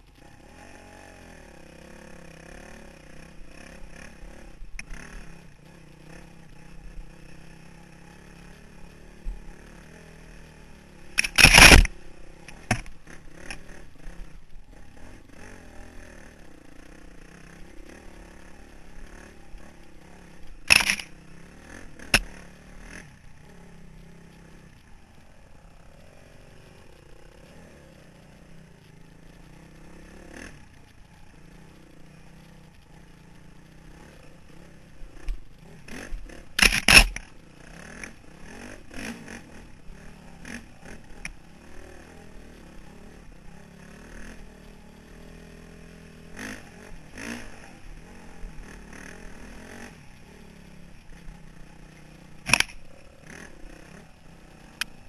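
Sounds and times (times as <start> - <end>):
dirt bike engine revving: 0.2 - 55.0.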